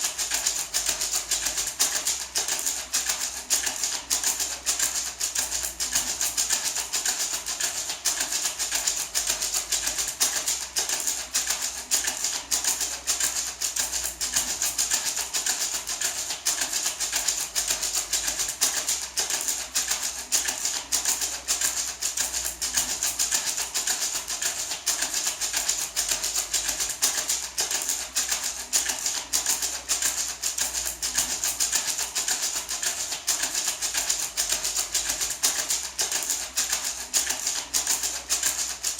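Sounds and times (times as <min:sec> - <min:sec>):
gourd maraca rattling: 0:00.0 - 0:38.9.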